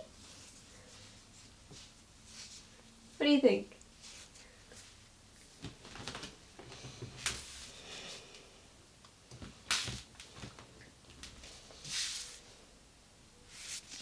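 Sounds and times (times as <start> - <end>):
faint rustling and shuffling: 0.0 - 12.8, 13.4 - 14.0.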